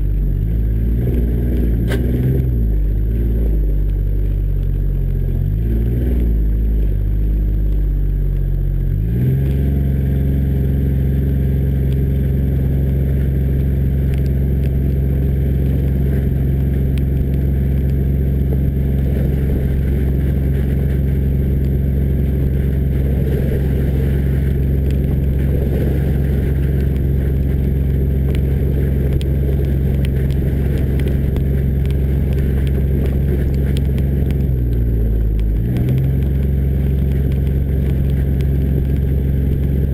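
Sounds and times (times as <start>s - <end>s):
diesel engine running: 0.0s - 39.9s
tyres on wet ground: 0.0s - 39.9s.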